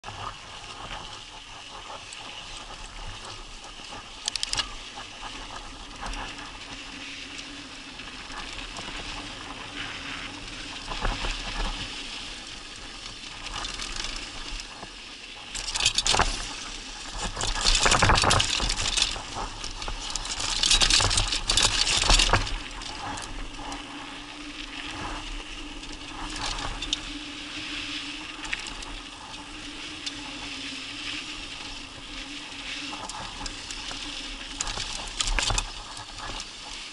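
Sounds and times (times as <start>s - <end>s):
bike tyres on dirt and gravel: 0.0s - 36.9s
bike rattling and clicking: 0.1s - 36.9s.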